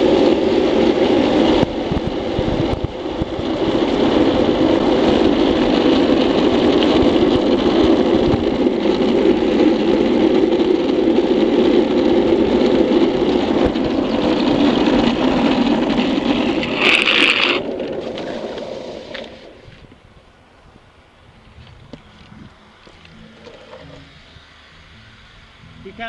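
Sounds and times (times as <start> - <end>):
wheels rolling on asphalt: 0.0 - 26.0
shoes scraping on road: 0.9 - 25.0.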